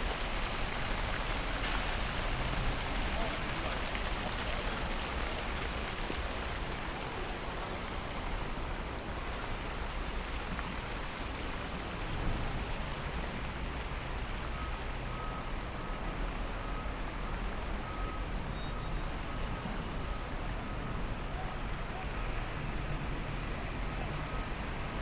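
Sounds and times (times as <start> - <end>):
rushing outdoor ambience: 0.0 - 25.0.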